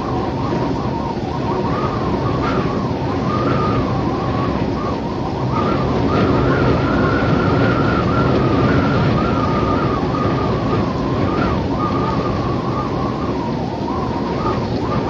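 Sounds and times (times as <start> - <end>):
wind rushing and howling: 0.0 - 15.0.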